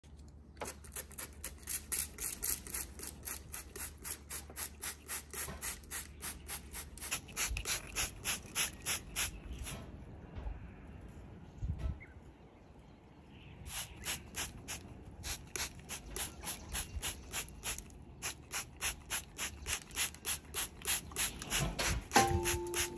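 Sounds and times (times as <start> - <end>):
spray bottle squirts: 0.6 - 9.8, 13.7 - 22.9.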